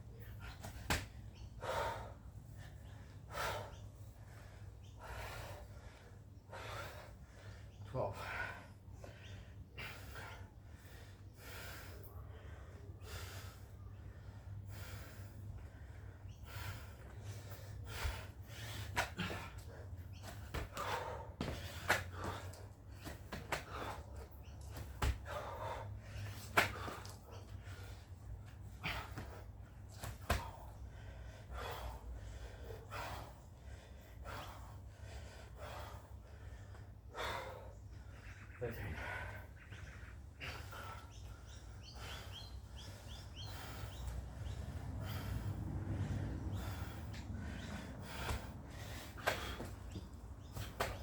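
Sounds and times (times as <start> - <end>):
person breathing heavily: 1.5 - 51.0.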